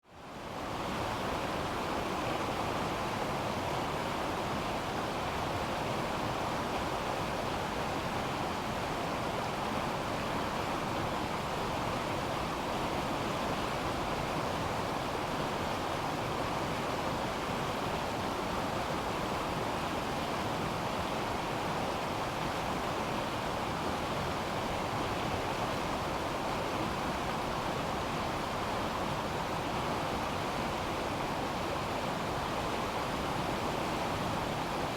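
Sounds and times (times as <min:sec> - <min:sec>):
river water rushing: 0:00.3 - 0:34.9.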